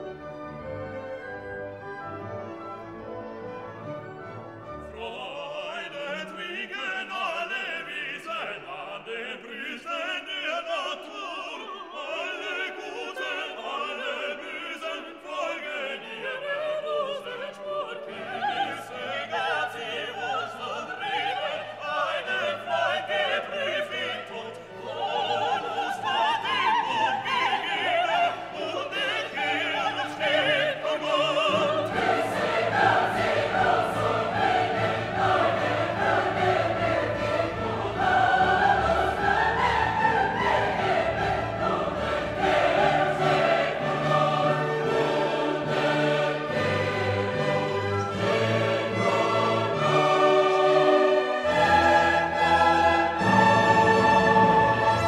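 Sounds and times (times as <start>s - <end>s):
classical orchestral music: 0.0s - 55.0s
operatic singing: 4.8s - 55.0s.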